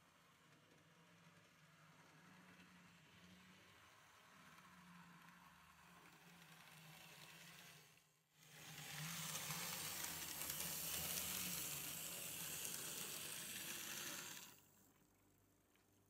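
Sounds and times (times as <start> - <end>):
model locomotive whirring: 0.1 - 15.0.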